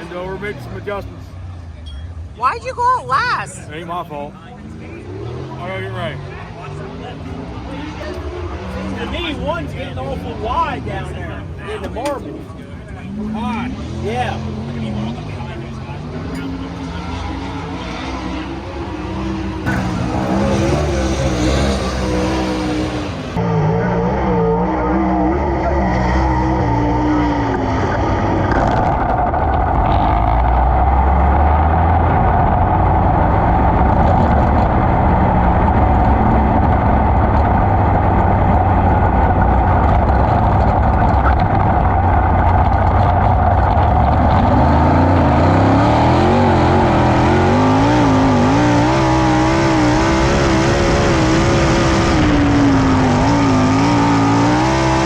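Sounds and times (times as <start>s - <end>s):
race car engine running hard: 3.7s - 55.0s.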